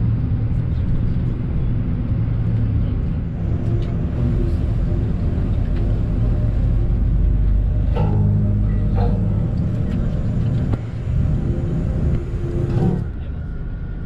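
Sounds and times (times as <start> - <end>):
motor vehicle rumbling: 0.0 - 14.0.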